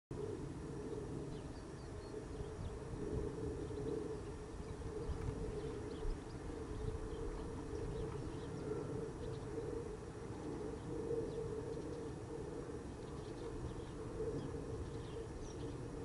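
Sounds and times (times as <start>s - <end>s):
steady low drone: 0.1s - 16.0s
faint small birds chirping: 0.9s - 16.0s.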